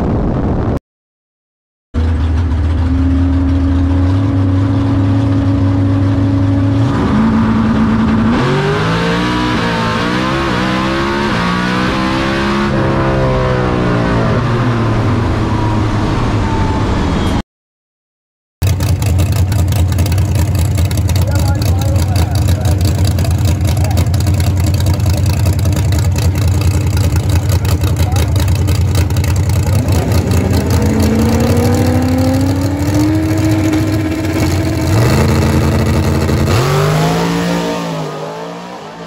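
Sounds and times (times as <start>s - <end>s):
race car engine revving: 2.0s - 17.3s, 18.6s - 39.0s
engine heard from trackside: 2.0s - 17.4s, 18.6s - 39.0s.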